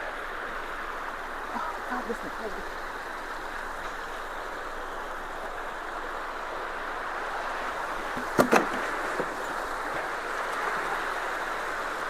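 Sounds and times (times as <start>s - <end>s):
water rushing through culvert: 0.0s - 12.0s.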